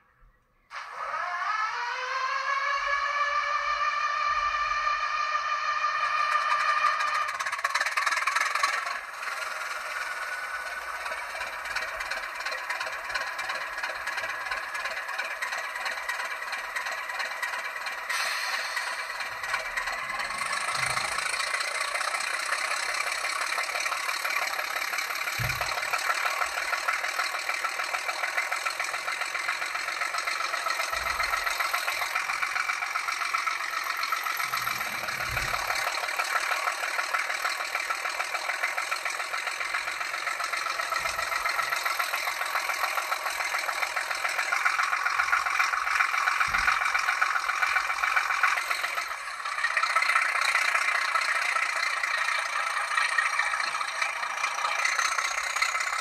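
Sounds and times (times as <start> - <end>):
model train diesel engine sound: 0.0 - 56.0.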